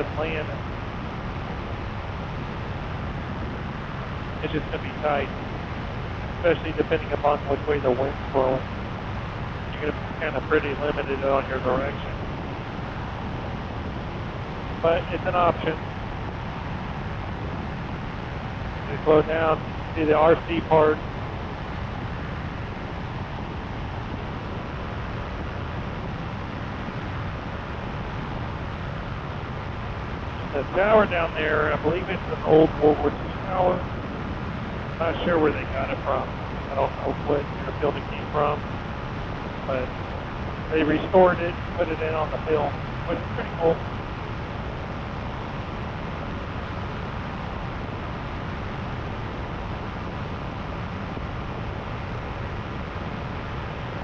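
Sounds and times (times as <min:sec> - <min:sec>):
paramotor engine droning: 0:00.0 - 0:54.0
wind rushing on microphone: 0:00.0 - 0:54.0.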